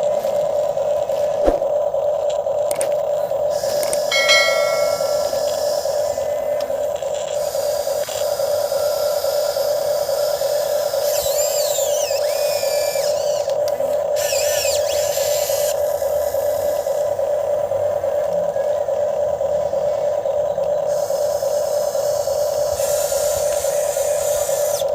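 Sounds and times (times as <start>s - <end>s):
hydraulic pump motor whining: 0.0s - 24.9s.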